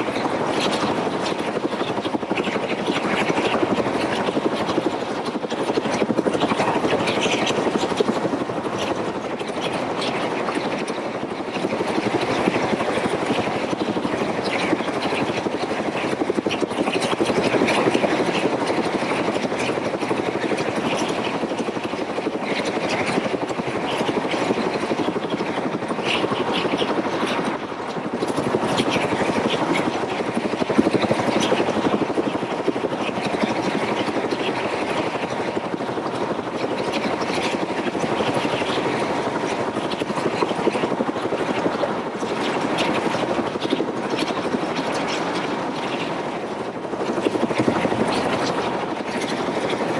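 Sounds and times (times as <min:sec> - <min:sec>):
helicopter in flight: 0:00.0 - 0:49.9.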